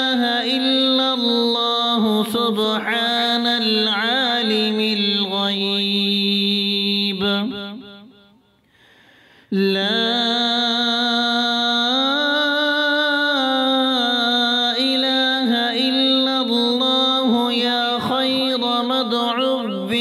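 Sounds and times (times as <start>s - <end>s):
person chanting melodically: 0.0s - 8.2s, 9.5s - 20.0s.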